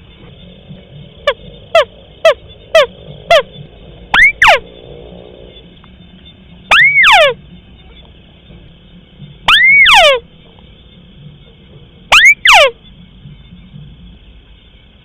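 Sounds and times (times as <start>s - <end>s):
recorded bird call: 0.0s - 15.0s.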